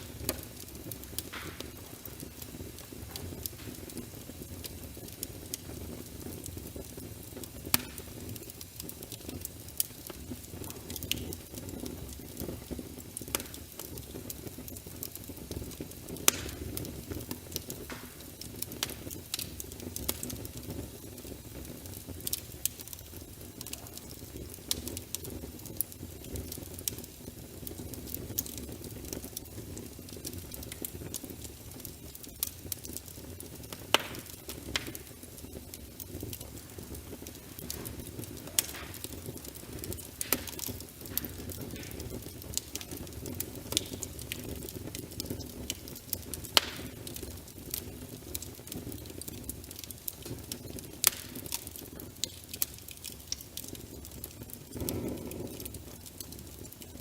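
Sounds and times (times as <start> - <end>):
sharp pops of fire: 0.0 - 57.0
wood fire crackling: 0.0 - 57.0.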